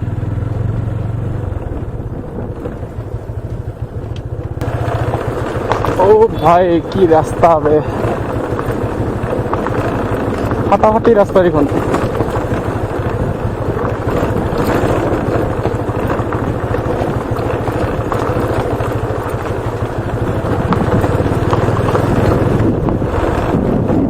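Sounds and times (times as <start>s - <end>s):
motorcycle engine running: 0.0s - 24.0s
wind noise on microphone: 0.6s - 4.6s, 5.2s - 24.0s.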